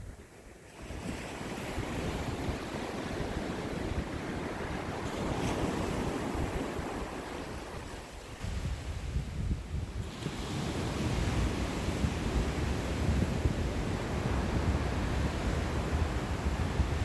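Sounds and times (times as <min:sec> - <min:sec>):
wind buffeting microphone: 0:00.0 - 0:17.0
sea waves washing on shore: 0:00.2 - 0:17.0.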